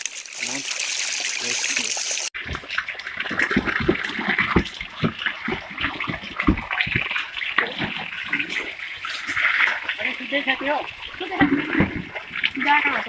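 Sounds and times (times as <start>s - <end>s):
watery squelching: 0.4s - 13.0s.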